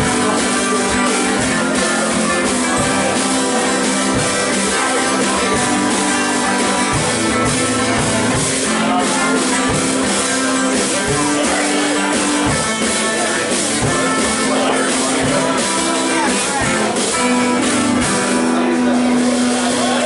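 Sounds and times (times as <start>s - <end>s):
acoustic guitar: 0.0s - 20.0s
drum kit: 0.0s - 20.0s.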